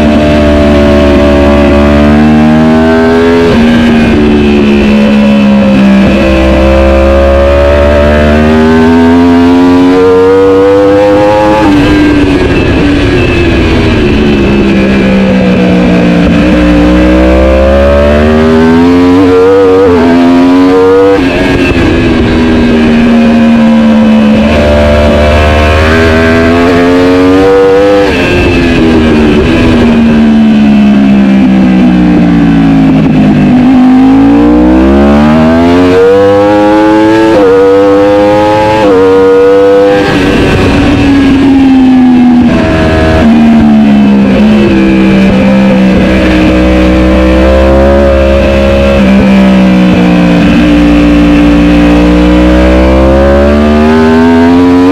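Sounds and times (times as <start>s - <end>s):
racing motorcycle engine revving: 0.0s - 54.9s.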